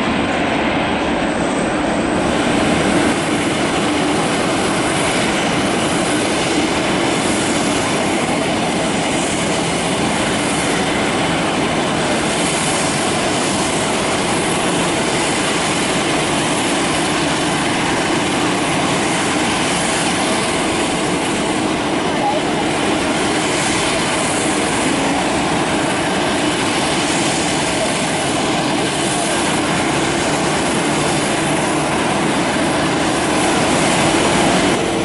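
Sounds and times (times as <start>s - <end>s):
jet engines running at taxi power: 0.0s - 35.0s.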